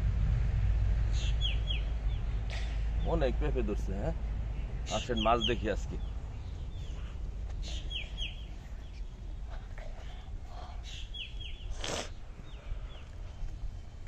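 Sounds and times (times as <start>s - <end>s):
birds chirping: 1.0s - 14.0s.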